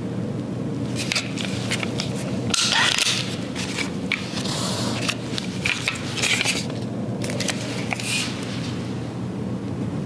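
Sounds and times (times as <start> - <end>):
steady low hum: 0.0 - 10.0
rustling scrapes of plastic and metal: 0.9 - 9.0.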